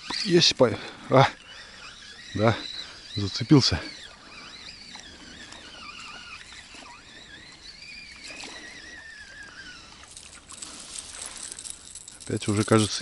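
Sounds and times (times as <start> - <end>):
faint reel clicks: 0.0 - 13.0
fishing reel whine: 0.0 - 13.0.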